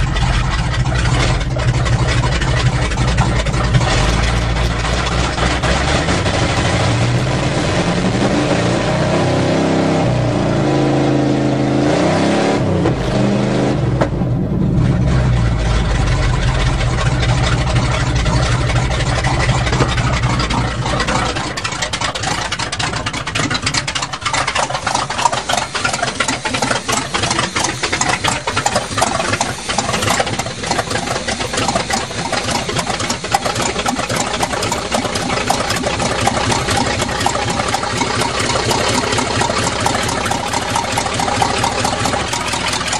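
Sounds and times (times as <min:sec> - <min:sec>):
truck engine idling unevenly: 0:00.0 - 0:11.8, 0:12.6 - 0:42.9.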